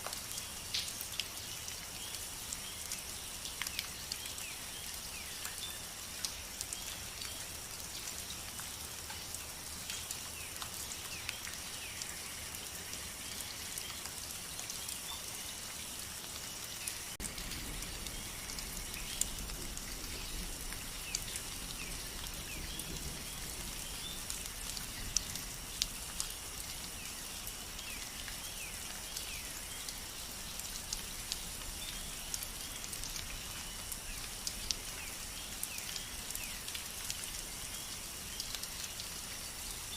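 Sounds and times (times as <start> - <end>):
raindrops ticking: 0.0 - 39.9
steady rain: 0.0 - 39.9.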